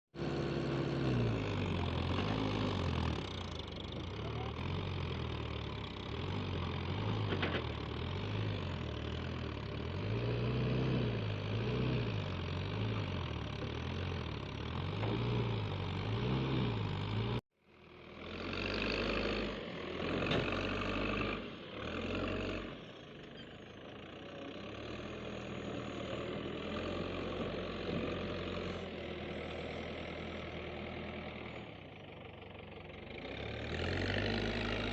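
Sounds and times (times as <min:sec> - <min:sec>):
diesel engine revving under load: 0:00.1 - 0:34.9.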